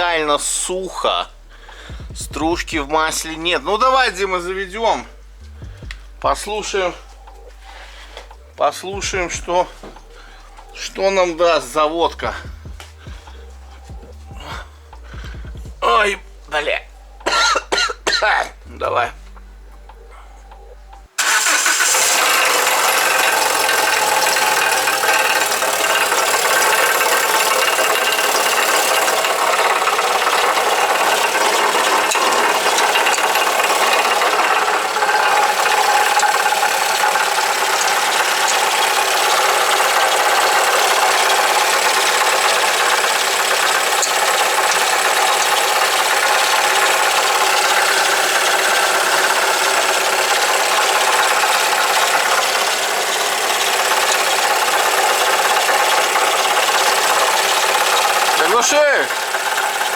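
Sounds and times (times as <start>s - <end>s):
car engine running: 0.0s - 59.9s
engine rattling knock: 1.7s - 4.6s, 5.2s - 7.6s, 8.2s - 10.2s, 11.4s - 16.1s, 21.1s - 59.9s.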